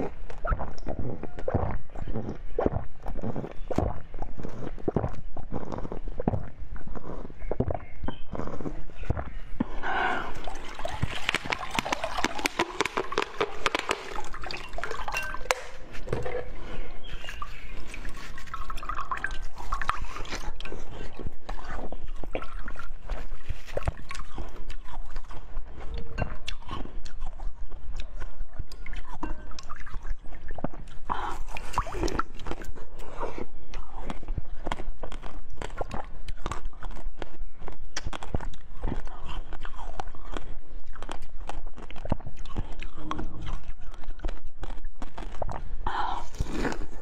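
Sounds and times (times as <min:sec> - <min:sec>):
mouth clicks and smacks: 0:00.0 - 0:47.0
wet squishy chewing: 0:00.0 - 0:47.0.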